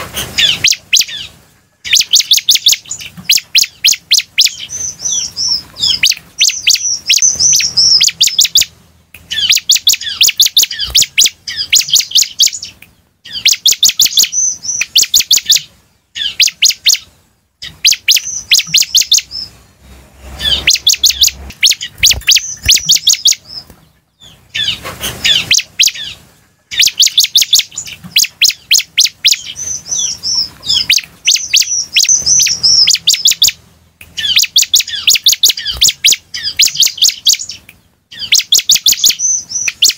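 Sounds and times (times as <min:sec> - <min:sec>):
bird singing high sharp chips: 0:00.2 - 0:39.9.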